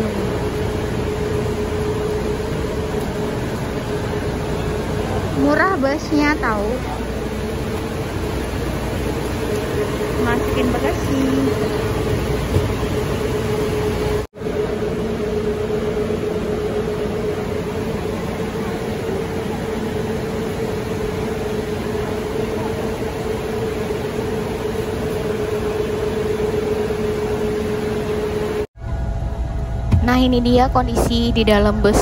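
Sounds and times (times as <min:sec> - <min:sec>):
bus engine idling: 0:00.0 - 0:32.0.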